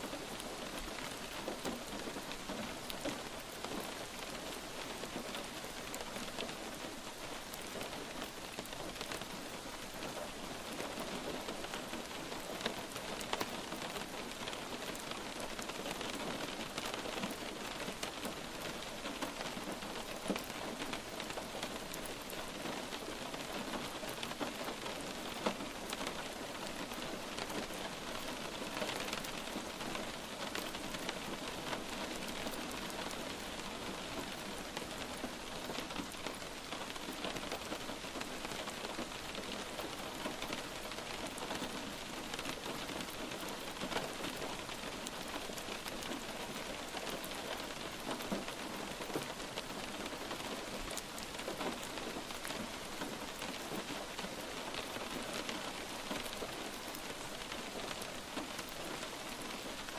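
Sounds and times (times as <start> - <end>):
light rain hissing: 0.0 - 59.9
raindrops tapping on a surface: 0.0 - 59.9.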